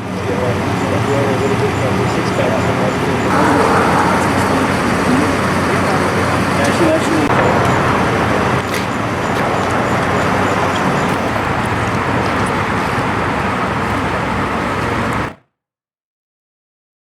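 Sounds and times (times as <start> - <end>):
street traffic rumble: 0.0 - 15.4.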